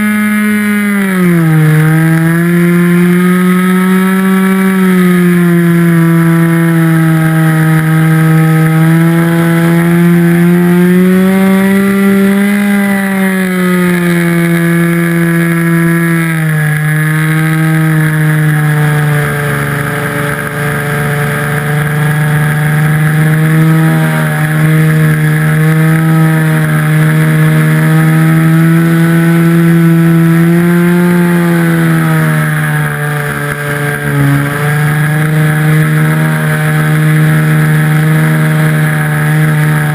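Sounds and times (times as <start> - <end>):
model airplane motor and propeller: 0.0 - 39.9.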